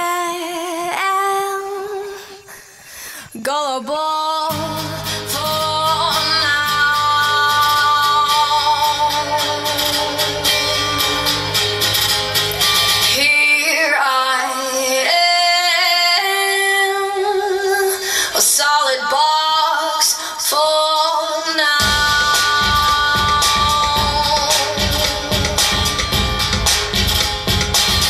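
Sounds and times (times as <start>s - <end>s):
song with singing voice: 0.0s - 28.0s.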